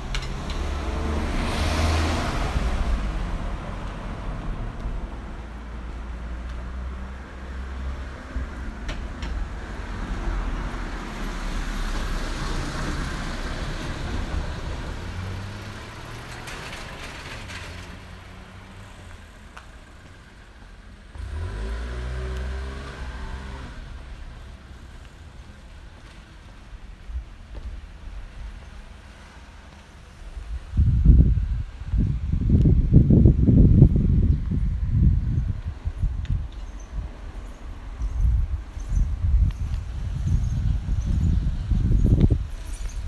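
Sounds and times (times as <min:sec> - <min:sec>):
engine pulling away: 0:00.0 - 0:26.8, 0:28.4 - 0:43.0
vehicles passing on street: 0:00.0 - 0:43.0.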